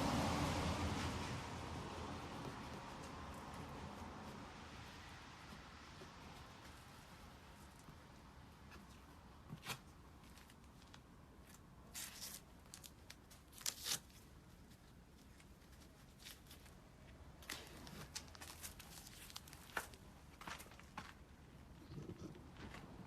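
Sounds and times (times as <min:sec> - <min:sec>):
faint rustles and clicks: 0:02.4 - 0:23.0.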